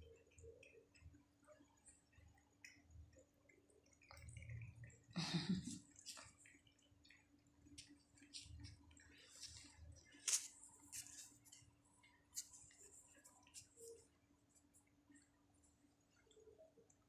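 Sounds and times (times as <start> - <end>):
cat licking and chewing: 0.0 - 16.6.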